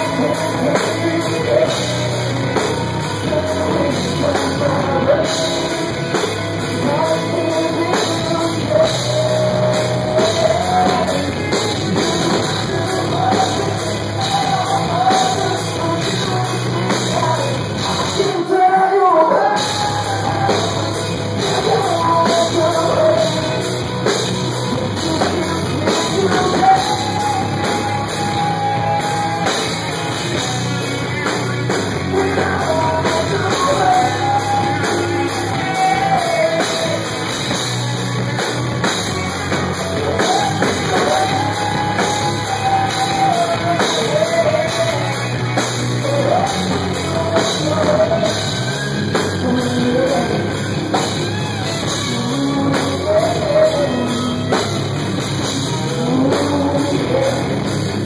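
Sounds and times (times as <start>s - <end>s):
bass guitar: 0.0s - 58.0s
drums: 0.0s - 58.0s
electric guitars: 0.0s - 58.0s
man singing: 0.0s - 58.0s.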